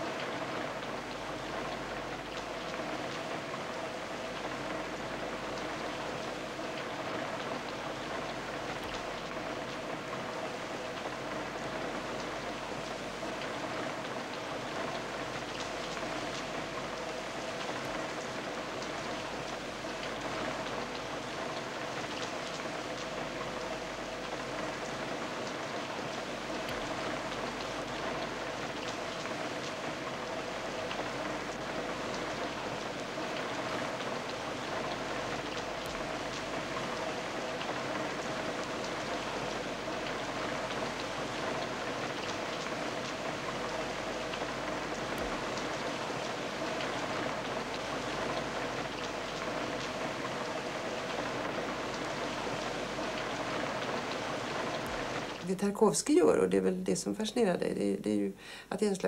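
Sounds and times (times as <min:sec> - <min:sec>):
rain hissing: 0:00.0 - 0:55.6.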